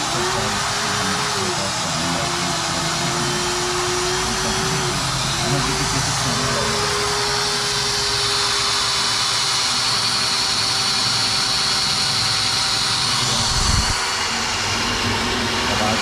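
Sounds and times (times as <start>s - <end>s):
mechanical whir with hum: 0.0s - 16.0s.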